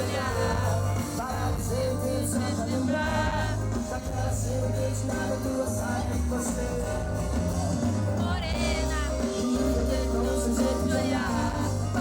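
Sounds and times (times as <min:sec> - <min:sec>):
heavy bass line: 0:00.0 - 0:12.0
man singing: 0:00.0 - 0:12.0
pop-rock band music: 0:00.0 - 0:12.0.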